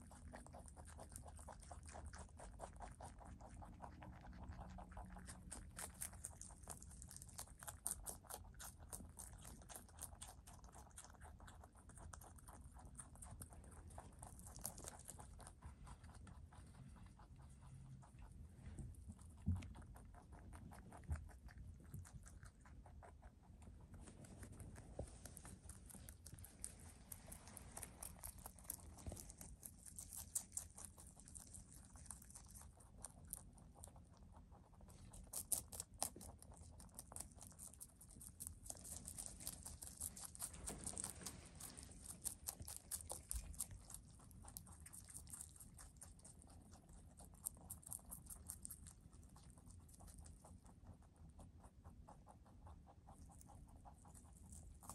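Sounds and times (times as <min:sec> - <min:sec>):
rabbits munching greens: 0:00.0 - 0:54.9.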